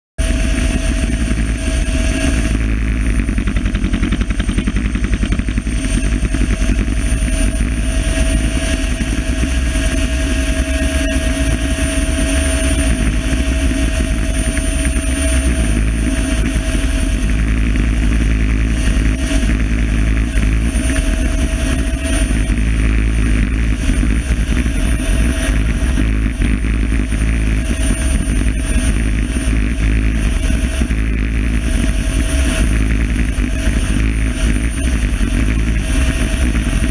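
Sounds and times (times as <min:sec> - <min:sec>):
helicopter running: 0:00.2 - 0:36.9.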